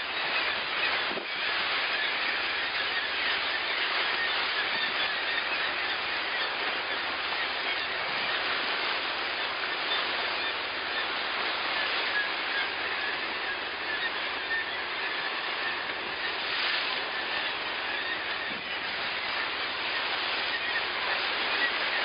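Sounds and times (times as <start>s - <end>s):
boat engine: 0.0s - 22.0s
water rushing from wake: 0.0s - 22.0s.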